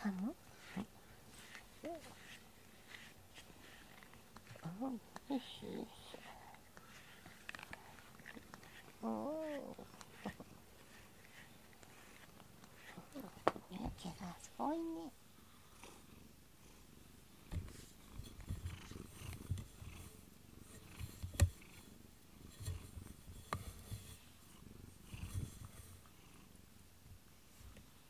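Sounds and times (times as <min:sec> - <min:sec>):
cat purring: 0:00.0 - 0:26.8.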